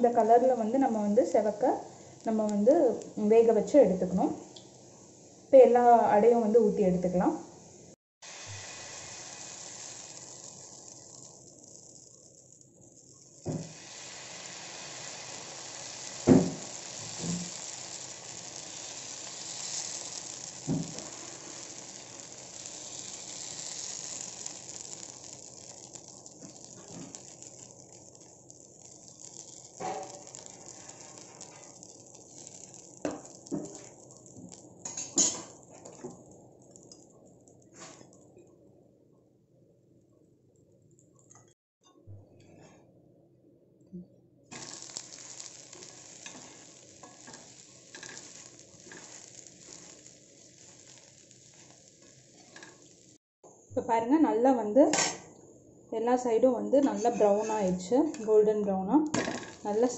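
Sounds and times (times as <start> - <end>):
batter sizzling on a griddle: 0.0 - 38.2, 44.5 - 53.2, 56.8 - 58.5, 59.1 - 59.9.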